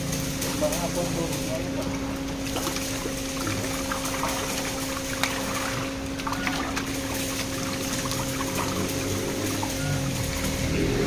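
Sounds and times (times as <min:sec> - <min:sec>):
steady machine hum: 0:00.0 - 0:11.0
water splashing and pouring: 0:00.3 - 0:11.0.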